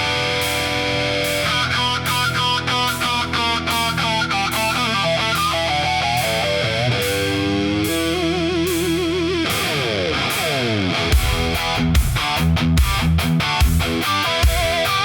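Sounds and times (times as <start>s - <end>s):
band backing: 0.0s - 15.0s
electric guitar solo: 0.0s - 15.0s.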